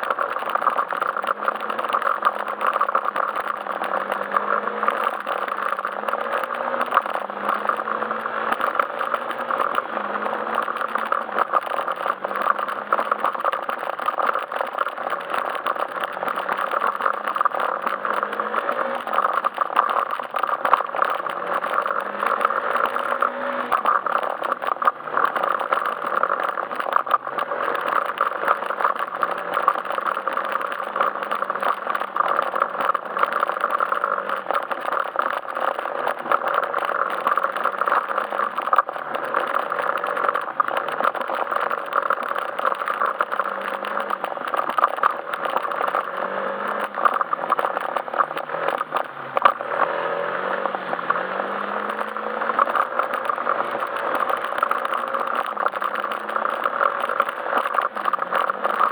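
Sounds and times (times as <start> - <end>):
road and wind noise: 0.0 - 58.9
scooter engine running: 0.0 - 58.9
small rattles and clicks: 0.0 - 58.9.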